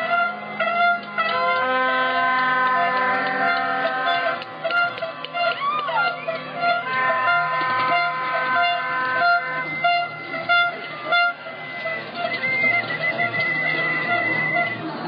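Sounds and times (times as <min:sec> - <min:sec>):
horns holding several tones: 0:00.0 - 0:15.0
short horn toot: 0:00.0 - 0:15.0.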